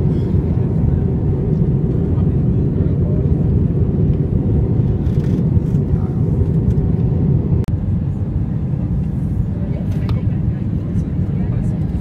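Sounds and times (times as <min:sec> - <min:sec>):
airliner cabin roar in flight: 0:00.0 - 0:12.0.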